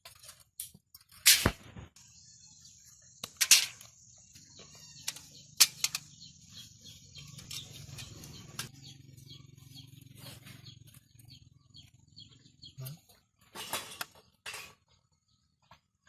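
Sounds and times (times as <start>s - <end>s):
birds chirping: 1.8s - 16.0s.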